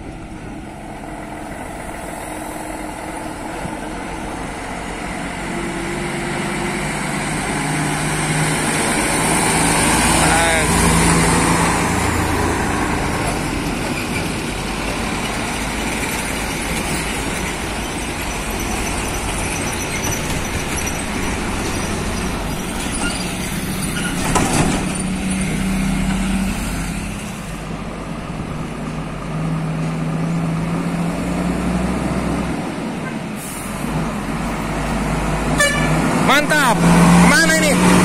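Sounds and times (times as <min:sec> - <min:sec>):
diesel truck engines passing: 0:00.0 - 0:38.0
traffic noise: 0:00.0 - 0:38.0.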